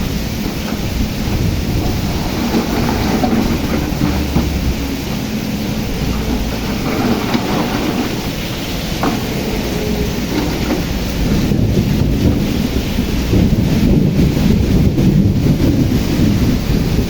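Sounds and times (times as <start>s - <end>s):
excavator rumbling: 0.0s - 17.0s
heavy rain pouring: 0.0s - 17.0s.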